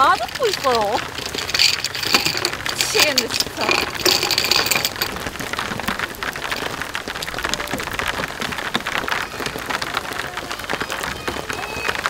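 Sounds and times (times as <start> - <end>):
heavy rain on wooden deck: 0.0 - 12.0.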